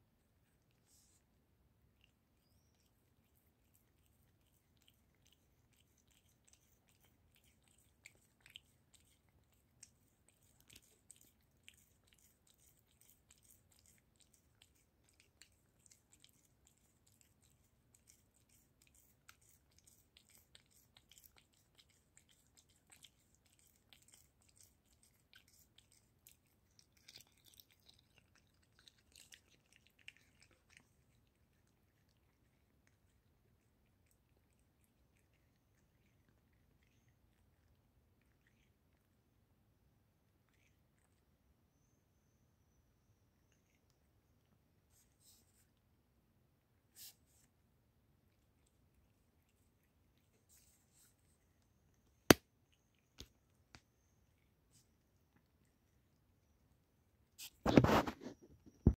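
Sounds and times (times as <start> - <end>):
cat chewing and licking: 0.0 - 58.9.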